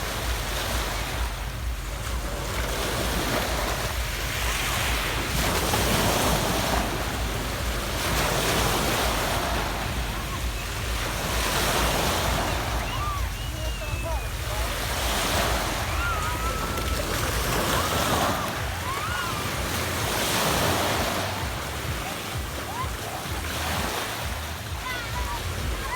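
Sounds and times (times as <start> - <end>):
waves washing onto pebble beach: 0.0 - 25.9
wind rumbling on microphone: 0.0 - 25.9.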